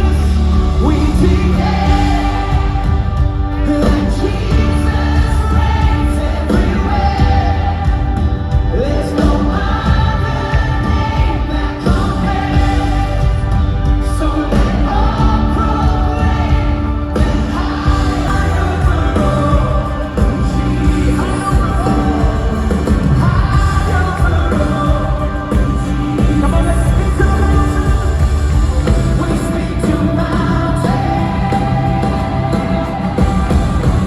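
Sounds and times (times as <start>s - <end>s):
music with singing voices: 0.0s - 34.0s.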